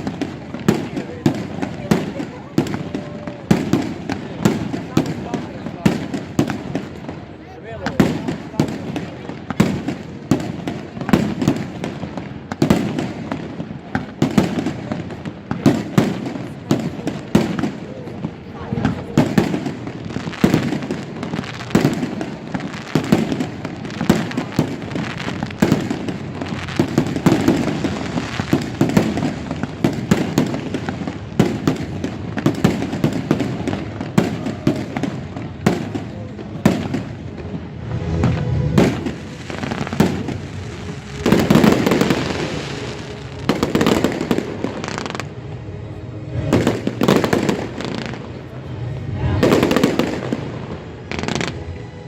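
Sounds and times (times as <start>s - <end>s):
heavy firework booms: 0.0s - 45.3s
fireworks bangs and crackles: 0.0s - 52.0s.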